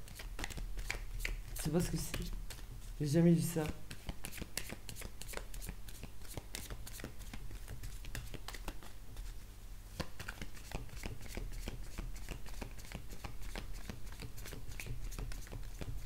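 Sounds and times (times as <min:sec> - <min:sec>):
cards being shuffled: 0:00.0 - 0:09.4, 0:10.0 - 0:16.0.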